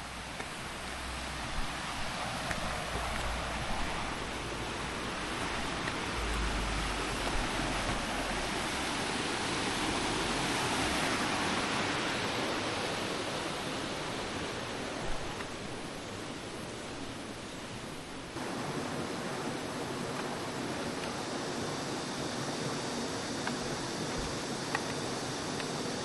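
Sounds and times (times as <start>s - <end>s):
stream water rushing: 0.0s - 26.0s
wind rumble on microphone: 0.0s - 26.0s.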